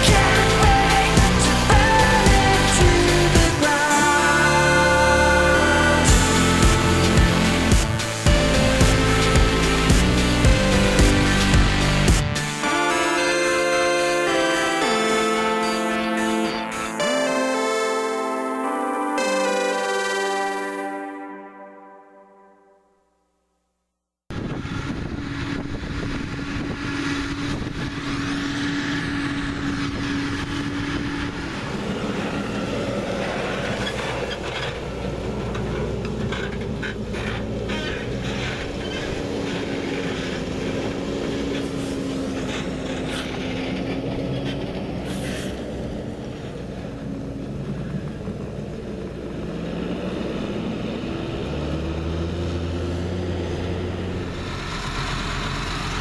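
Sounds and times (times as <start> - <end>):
diesel farm machinery running: 0.0 - 18.0, 24.4 - 56.0
engine accelerating: 0.0 - 21.3, 24.3 - 56.0.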